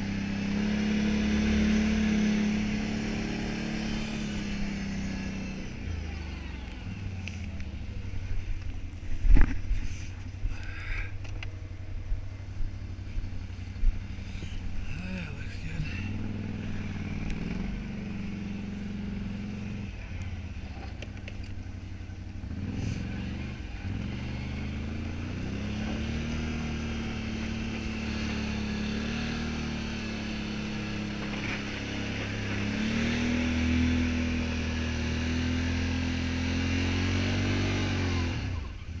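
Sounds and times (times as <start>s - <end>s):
atv engine running: 0.0s - 39.0s.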